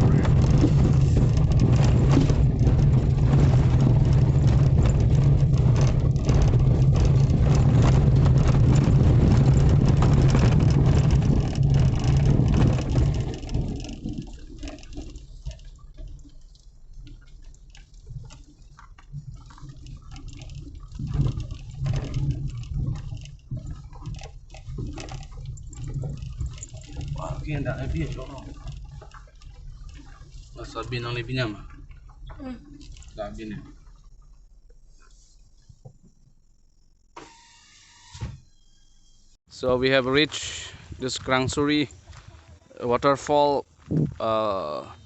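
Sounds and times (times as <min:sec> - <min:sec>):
car engine and road drone: 0:00.0 - 0:43.0.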